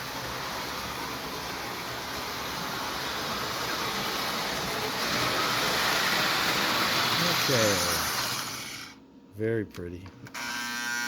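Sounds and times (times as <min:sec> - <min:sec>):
toy train motor whirring on rails: 0:00.0 - 0:09.0, 0:10.3 - 0:11.0.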